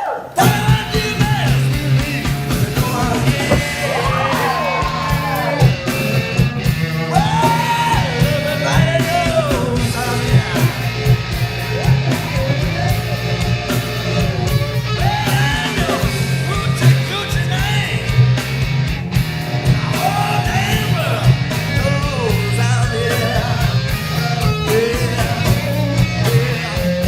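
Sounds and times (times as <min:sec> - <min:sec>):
guitar: 0:00.0 - 0:27.0
driving drum beat: 0:00.4 - 0:27.0
person singing rock song: 0:00.4 - 0:27.0.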